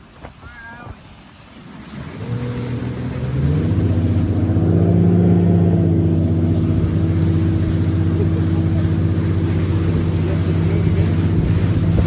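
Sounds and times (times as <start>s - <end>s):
boat motor running: 0.6s - 12.0s.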